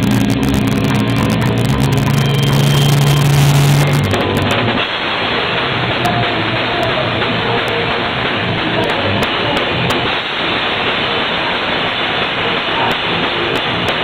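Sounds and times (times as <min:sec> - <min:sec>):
electric guitars: 0:00.0 - 0:14.0.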